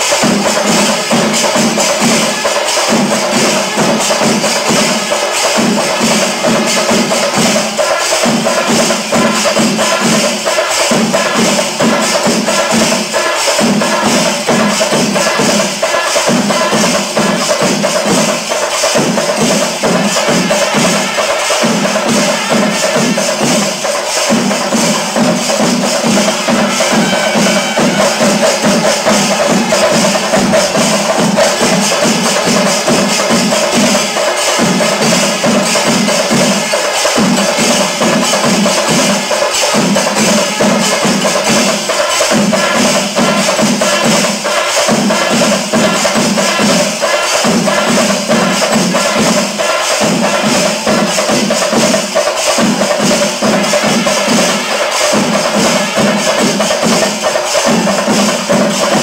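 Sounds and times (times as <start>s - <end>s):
music with fast dense percussion: 0.0s - 59.0s.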